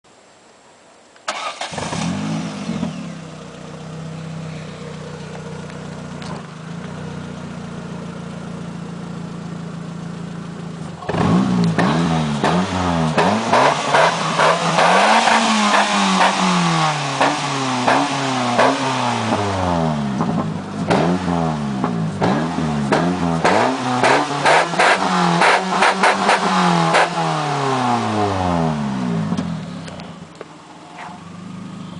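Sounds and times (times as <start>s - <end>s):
car engine starting and idling: 1.2s - 31.9s
car engine revving: 1.3s - 31.9s.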